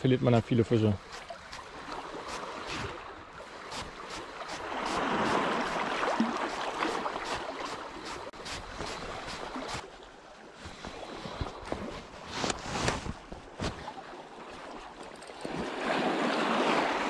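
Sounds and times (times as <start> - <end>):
water lapping on stones: 0.3 - 17.0.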